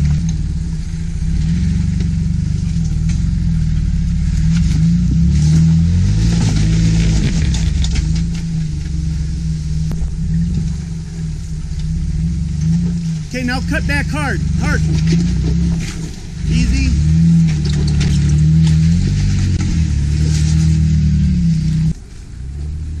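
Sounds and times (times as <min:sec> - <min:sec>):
engine running at low revs: 0:00.0 - 0:23.0
tires clicking and knocking on rock: 0:00.0 - 0:23.0.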